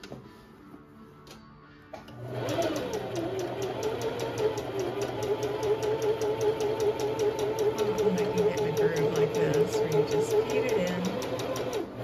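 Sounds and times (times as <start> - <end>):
sewing machine running: 2.1 - 12.0.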